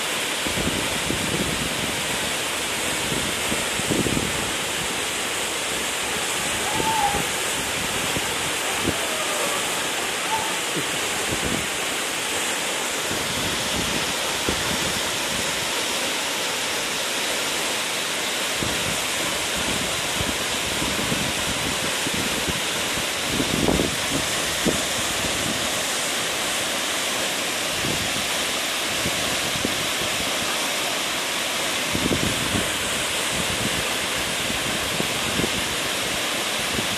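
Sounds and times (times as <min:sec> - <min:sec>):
waterfall crashing down: 0:00.0 - 0:36.9.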